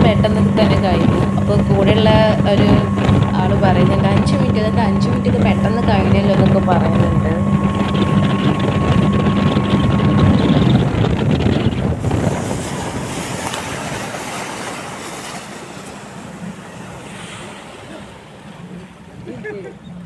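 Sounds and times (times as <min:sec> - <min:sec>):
speedboat engine: 0:00.0 - 0:20.0
water and wind rushing: 0:00.0 - 0:20.0.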